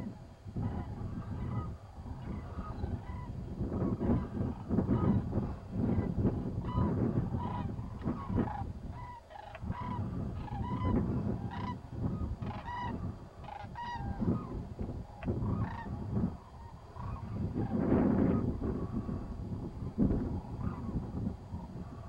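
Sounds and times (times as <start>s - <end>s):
cranes bugling: 0.0s - 22.0s.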